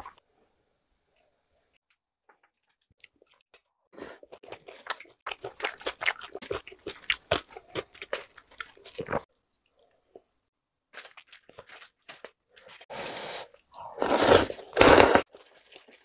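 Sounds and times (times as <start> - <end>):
person chewing food: 2.4 - 16.0.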